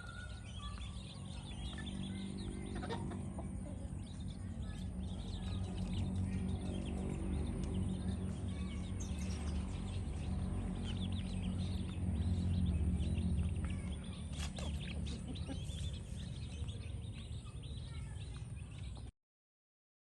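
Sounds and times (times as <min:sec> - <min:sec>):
steady low rumble: 0:00.0 - 0:19.0
birds chirping: 0:00.0 - 0:19.1.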